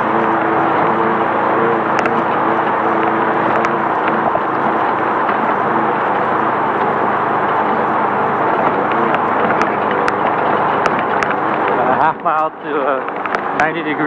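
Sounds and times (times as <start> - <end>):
car engine running at speed: 0.0 - 14.0
car knocking over rough ground: 0.0 - 14.0
tyre and wind noise: 0.0 - 14.0.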